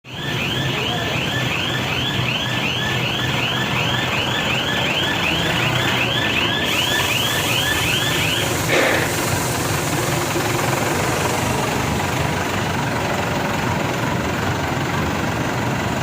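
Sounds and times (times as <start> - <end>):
diesel forklift engine running: 0.1 - 16.0.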